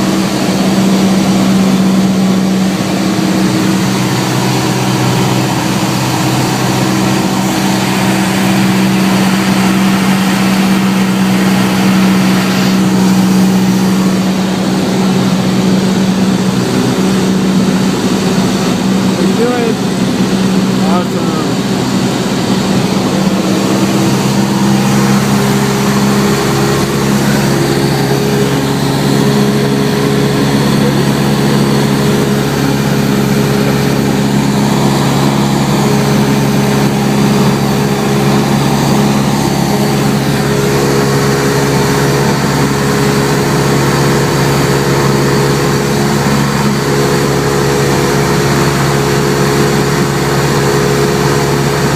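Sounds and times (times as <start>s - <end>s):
airplane engine and propeller droning: 0.0s - 51.9s.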